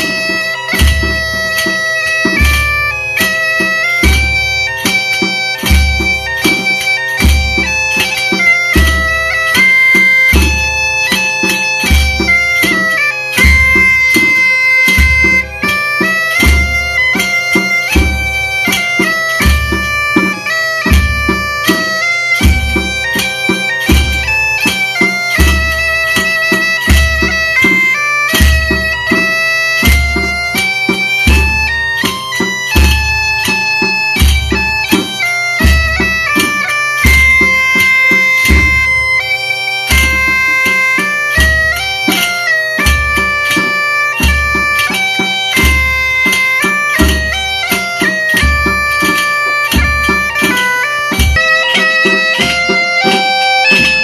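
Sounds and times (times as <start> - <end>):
bagpipe melody with drone: 0.0 - 54.0
snare drums: 0.0 - 54.0.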